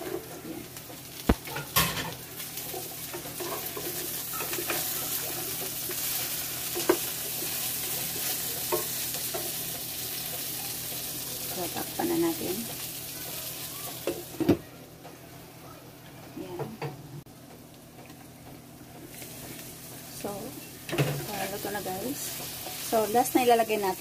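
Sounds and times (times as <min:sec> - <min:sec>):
vegetables sizzling in a pan: 0:00.0 - 0:15.7, 0:18.7 - 0:24.0.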